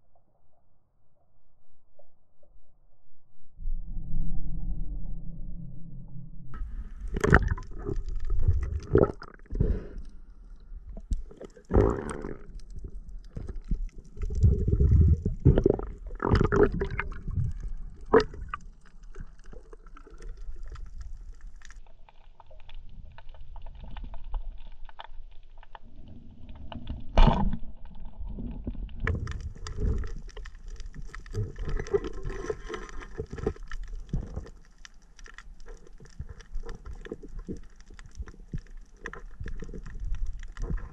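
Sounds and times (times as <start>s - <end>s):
water swishes: 6.5s - 40.9s.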